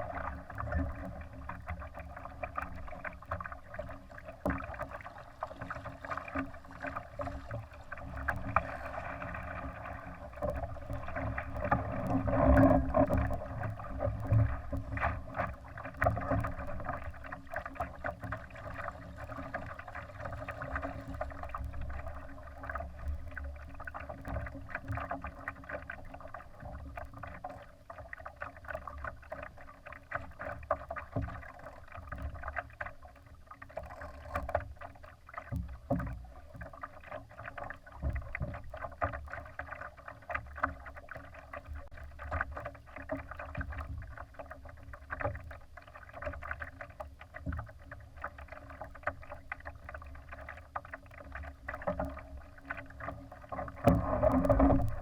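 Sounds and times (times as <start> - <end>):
water splashing against hull: 0.0 - 55.0.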